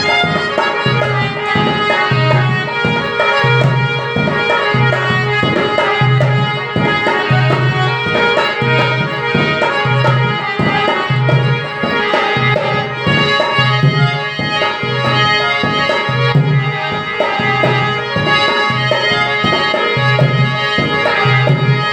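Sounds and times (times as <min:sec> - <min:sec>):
hand drum beat: 0:00.0 - 0:21.9
harmonium chords: 0:00.0 - 0:21.9.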